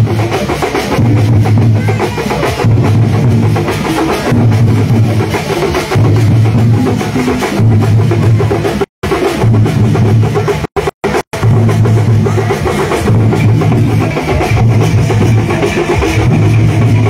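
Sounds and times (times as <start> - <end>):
drum-led music with deep bass: 0.0 - 17.0.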